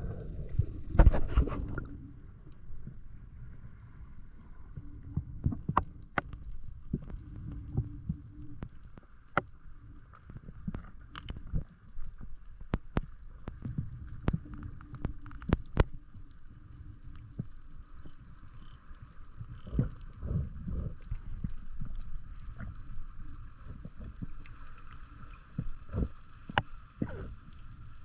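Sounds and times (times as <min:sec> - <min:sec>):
faint steady hum: 0:00.0 - 0:28.0
underwater low rumble: 0:00.0 - 0:28.0.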